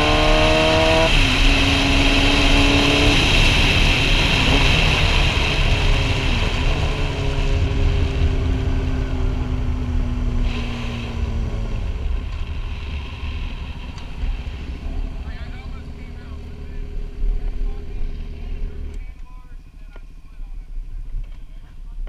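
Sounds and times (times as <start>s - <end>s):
wind rushing over microphone: 0.0s - 19.0s
motorcycle engine running: 0.0s - 20.0s.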